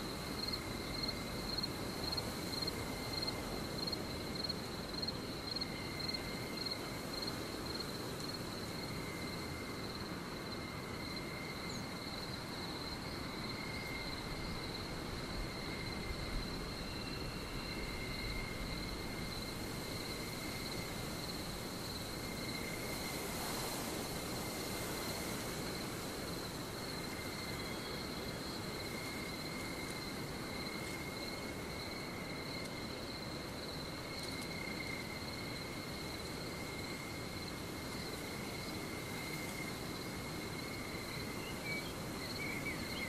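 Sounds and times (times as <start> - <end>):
background hiss: 0.0 - 43.0
insects trilling: 0.0 - 43.0.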